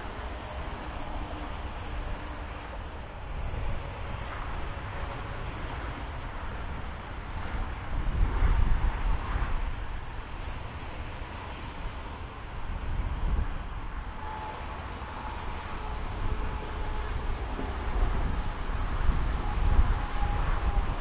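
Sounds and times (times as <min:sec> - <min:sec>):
faint engine whine: 0:00.0 - 0:21.0
jet engine rumble: 0:00.0 - 0:21.0
wind buffeting microphone: 0:00.0 - 0:21.0.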